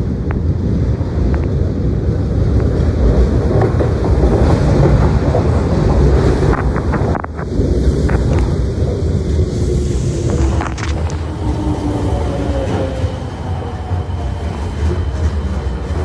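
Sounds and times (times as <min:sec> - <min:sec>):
train wheels rumbling on rail: 0:00.0 - 0:16.0
wind noise on microphone: 0:00.0 - 0:16.0.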